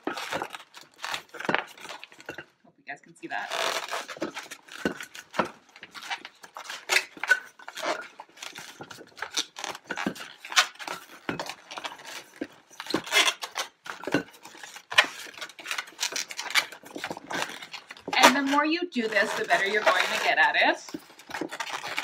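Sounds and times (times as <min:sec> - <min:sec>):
balloons squeaking and rubbing: 0:00.0 - 0:02.4, 0:03.2 - 0:22.0.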